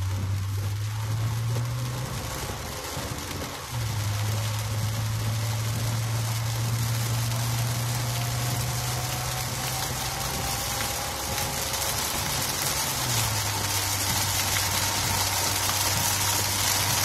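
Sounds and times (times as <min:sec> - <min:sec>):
heavy rain on a car: 0:00.0 - 0:17.0
low car hum: 0:00.0 - 0:17.0.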